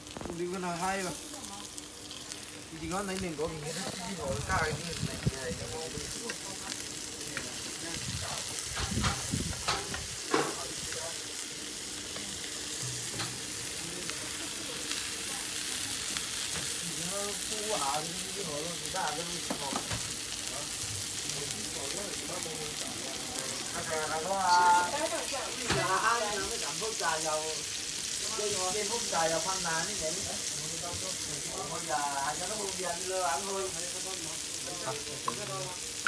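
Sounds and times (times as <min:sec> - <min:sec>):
food sizzling in oil: 0:00.0 - 0:36.0.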